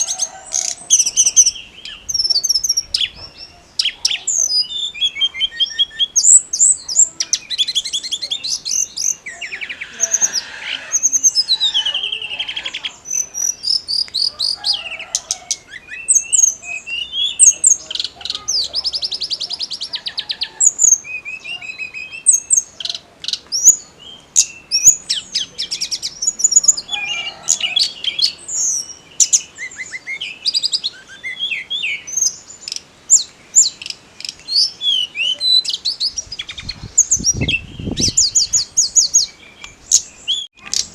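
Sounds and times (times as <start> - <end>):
bird song with chirps and trills: 0.0 - 40.9.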